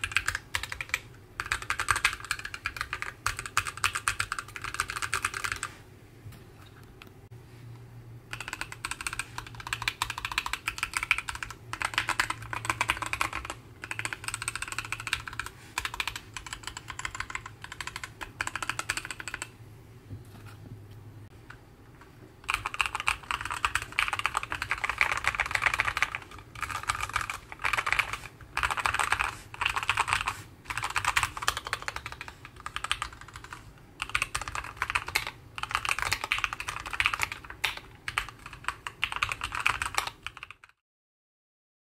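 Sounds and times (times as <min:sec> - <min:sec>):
mechanical keyboard typing: 0:00.0 - 0:05.7, 0:08.3 - 0:19.6, 0:22.4 - 0:40.8.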